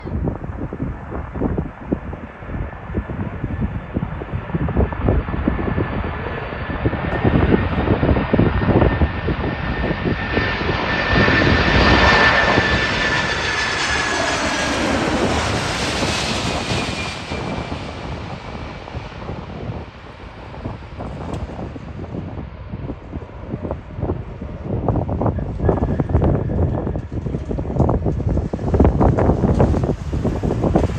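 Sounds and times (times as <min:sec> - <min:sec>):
airplane engine whine: 0:00.0 - 0:30.9
wind gusts buffeting microphone: 0:00.0 - 0:30.9.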